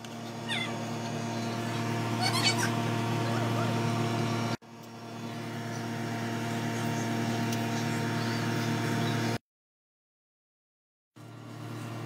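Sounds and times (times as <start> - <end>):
mechanical hum with whirring: 0.0 - 9.4, 11.2 - 12.0.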